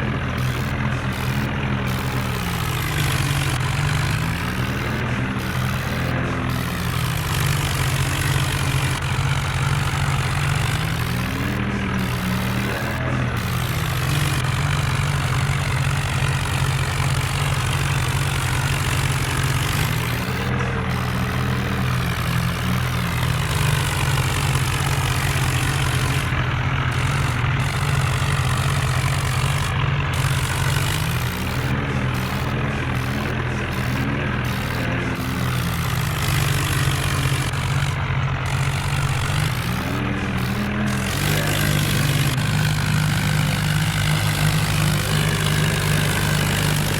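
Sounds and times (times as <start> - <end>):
diesel tractor engines running: 0.0 - 46.9.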